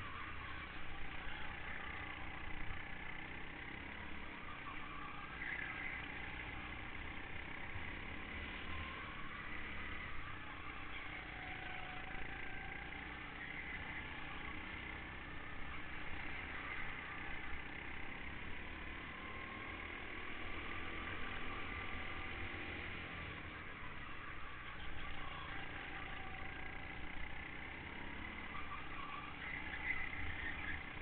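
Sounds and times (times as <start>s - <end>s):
go-kart engine: 0.0s - 31.0s.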